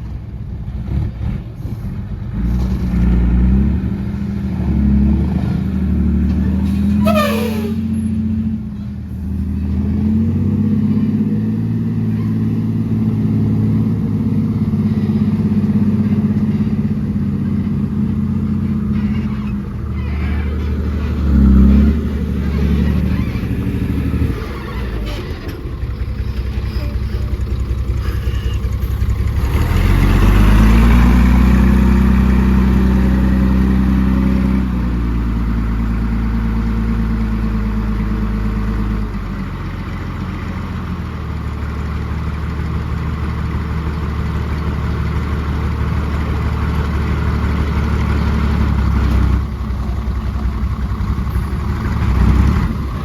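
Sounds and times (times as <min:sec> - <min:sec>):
heavy diesel engine revving: 0:00.7 - 0:53.0.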